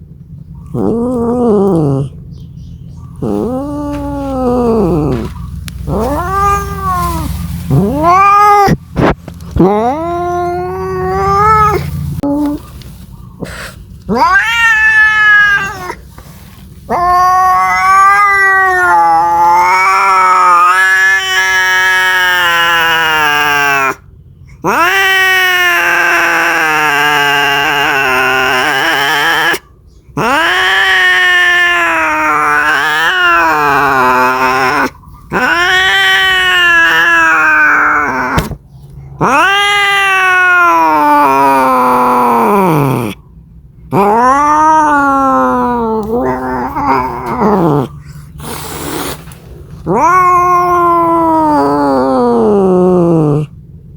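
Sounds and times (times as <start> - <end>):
cat yowling: 0.6 - 2.2, 3.2 - 12.7, 13.4 - 16.1, 16.9 - 43.2, 43.9 - 49.2, 49.8 - 53.6.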